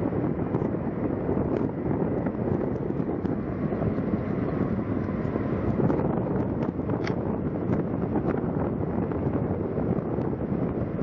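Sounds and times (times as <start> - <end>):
jet airliner taxiing rumble: 0.0 - 11.0
wind buffeting microphone: 0.0 - 11.0.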